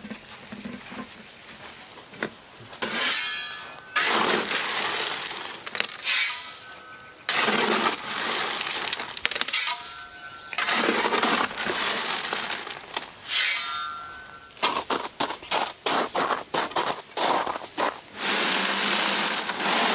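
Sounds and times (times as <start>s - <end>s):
shovel scraping gravel: 2.8s - 19.9s.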